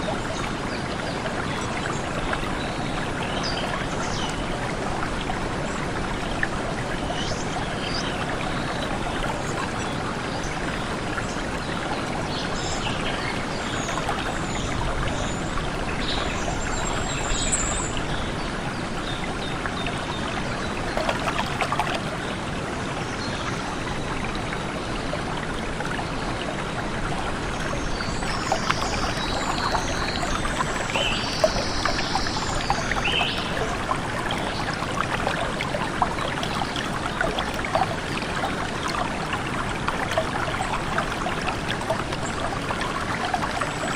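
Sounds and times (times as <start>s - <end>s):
stream of water trickling: 0.0s - 43.9s.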